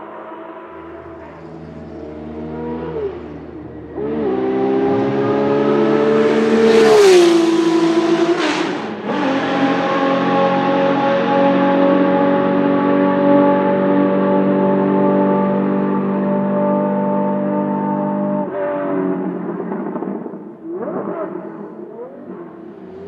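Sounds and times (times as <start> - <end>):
racing engine accelerating past: 0.1 - 23.0.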